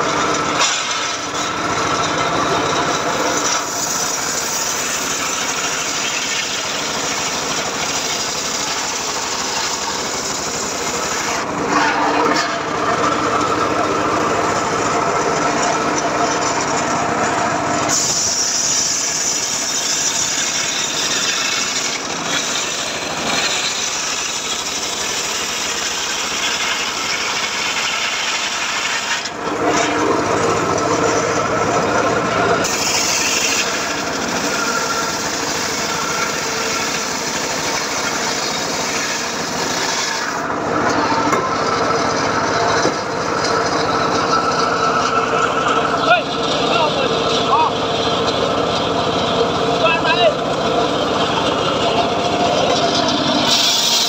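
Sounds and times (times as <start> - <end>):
circular saw cutting wood: 0.0 - 54.0.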